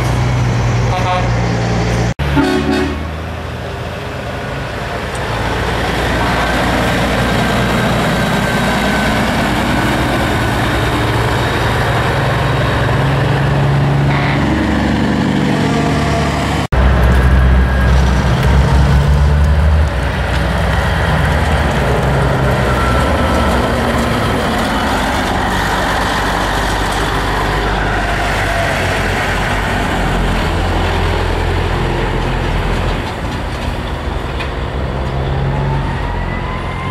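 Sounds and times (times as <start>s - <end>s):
diesel truck engines passing: 0.0s - 36.9s
road noise: 0.0s - 36.9s.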